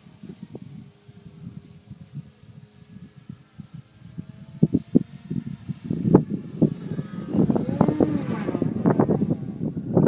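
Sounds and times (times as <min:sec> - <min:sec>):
model plane motor whine: 0:00.0 - 0:10.0
wind buffeting microphone: 0:00.0 - 0:10.0.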